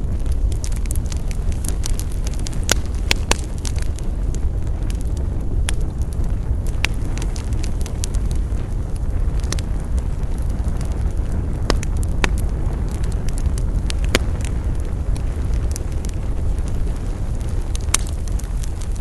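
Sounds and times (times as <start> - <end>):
campfire crackling and popping: 0.0 - 19.0
low rumble of fire: 0.0 - 19.0.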